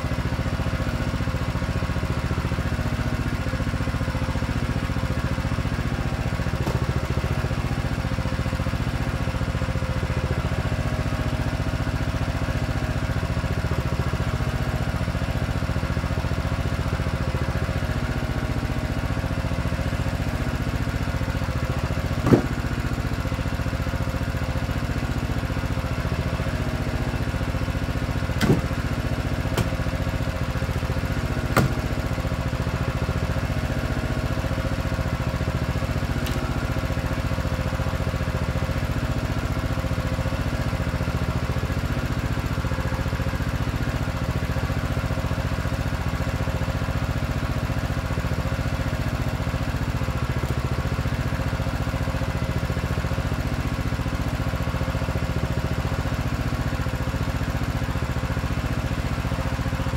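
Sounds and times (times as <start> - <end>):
log splitter engine running: 0.0 - 59.9.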